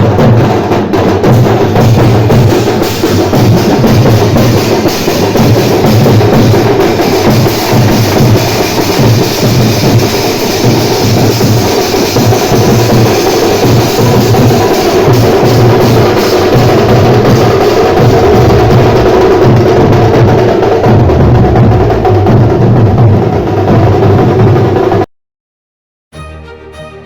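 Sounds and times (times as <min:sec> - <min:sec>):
loud music with heavy drumming: 0:00.0 - 0:25.0.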